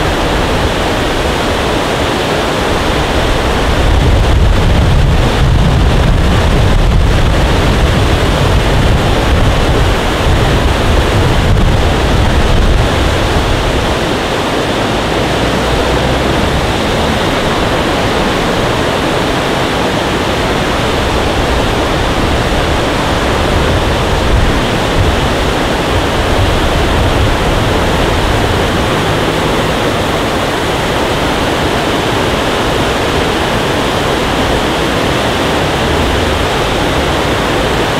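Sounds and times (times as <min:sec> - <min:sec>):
heavy low rumble: 0:00.0 - 0:37.9
wind buffeting microphone: 0:00.0 - 0:37.9.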